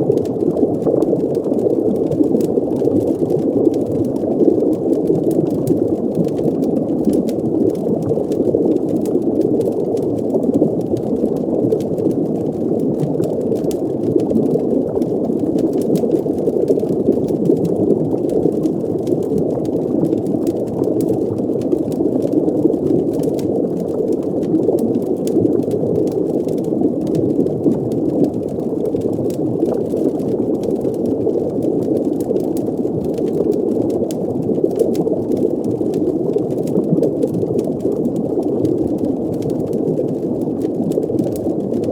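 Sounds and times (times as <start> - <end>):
faint crackles: 0.0 - 41.9.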